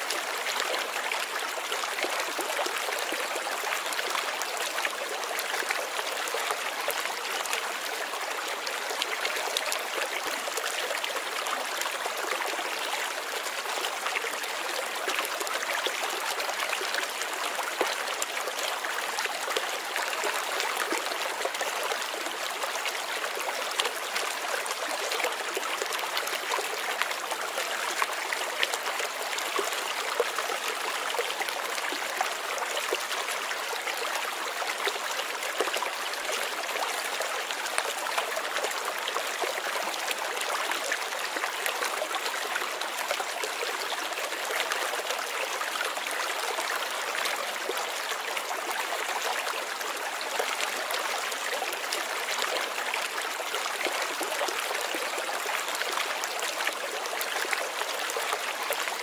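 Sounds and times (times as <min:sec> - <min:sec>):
stream running and trickling: 0:00.0 - 0:59.0.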